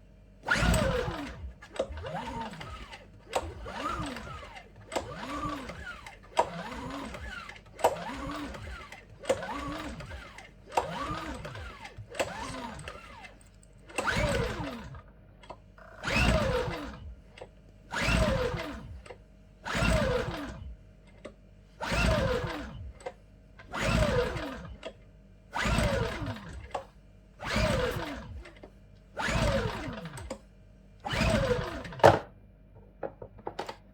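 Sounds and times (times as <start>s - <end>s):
generator cranking whir: 0.4s - 25.0s, 25.6s - 30.4s, 31.0s - 32.3s.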